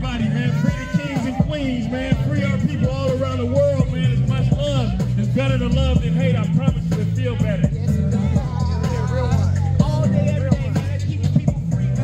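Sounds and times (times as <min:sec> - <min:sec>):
low musical backing: 0:00.0 - 0:12.0.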